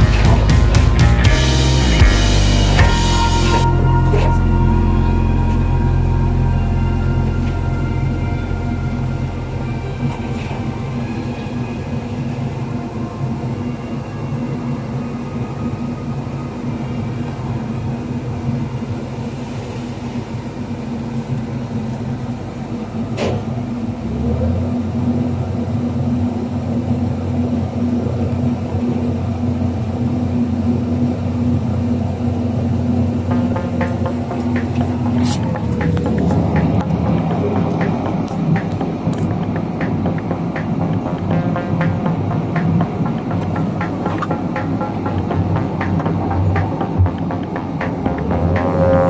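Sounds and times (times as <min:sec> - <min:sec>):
diesel machinery running: 0:00.0 - 0:49.0.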